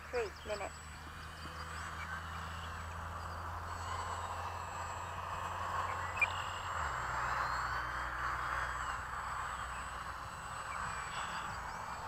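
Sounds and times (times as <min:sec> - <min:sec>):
small electric plane motor buzzing: 0:00.0 - 0:12.0.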